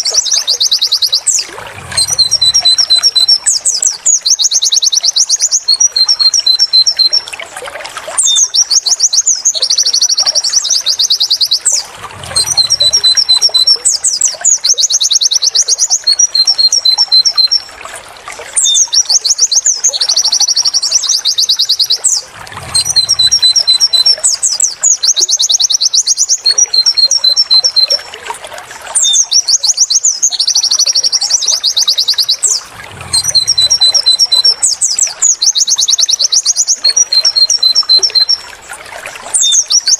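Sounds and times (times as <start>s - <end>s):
white-eye bird song trills: 0.0s - 7.3s, 8.2s - 17.8s, 18.6s - 28.1s, 29.0s - 38.7s, 39.3s - 39.9s.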